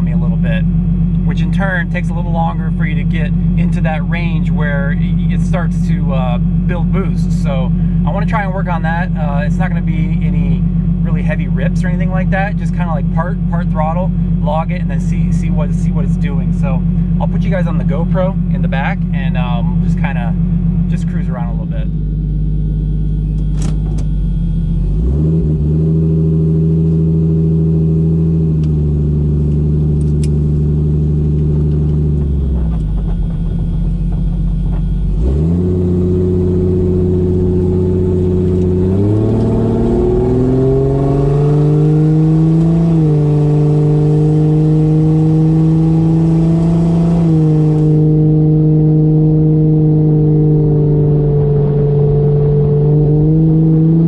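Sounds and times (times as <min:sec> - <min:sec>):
car engine at part throttle: 0:00.0 - 0:54.0.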